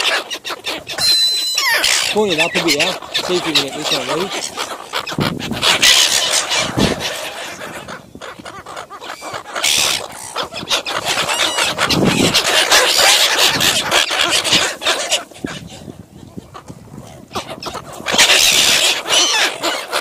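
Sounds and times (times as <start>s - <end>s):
gulls squawking: 0.0s - 20.0s.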